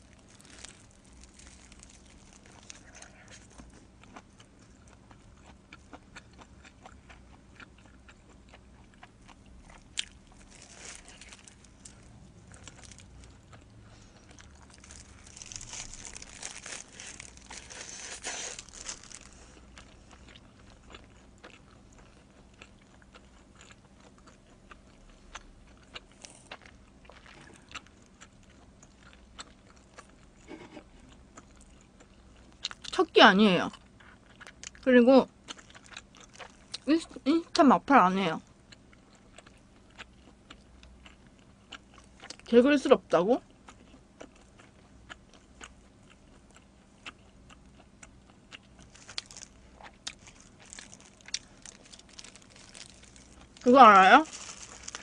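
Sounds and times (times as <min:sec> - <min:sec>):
chewing pizza crust: 0:00.0 - 0:37.6, 0:38.4 - 0:55.0.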